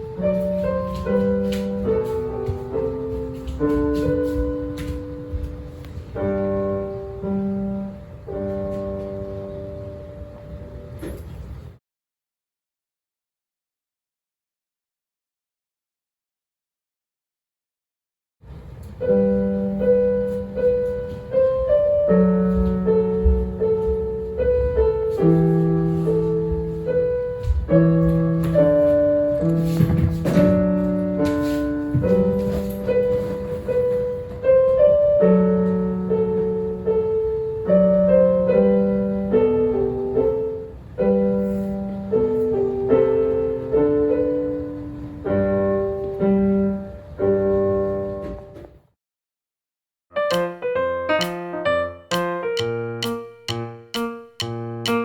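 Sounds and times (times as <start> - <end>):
slow piano melody: 0.0 - 11.8, 18.4 - 48.9, 50.1 - 55.0.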